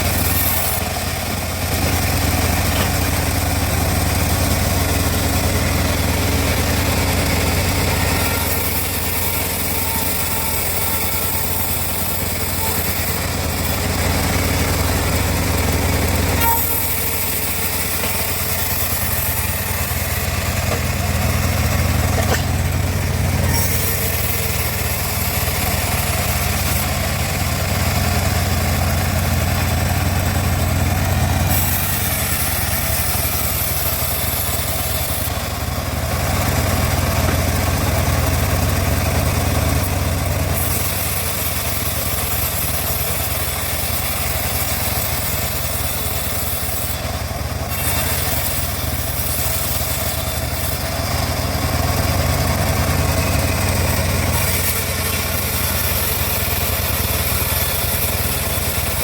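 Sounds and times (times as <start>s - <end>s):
engine-driven bandsaw mill running: 0.0s - 59.0s.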